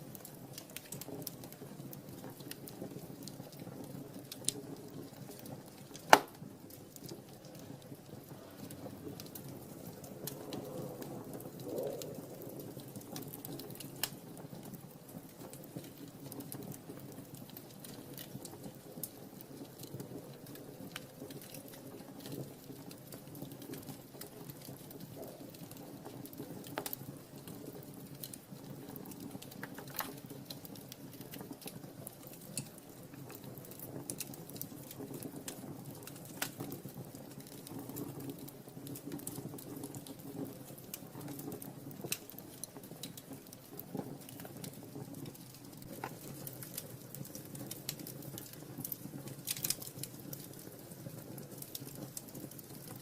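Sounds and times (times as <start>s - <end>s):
wood fire crackling: 0.0s - 53.0s
sharp pops of fire: 0.1s - 53.0s.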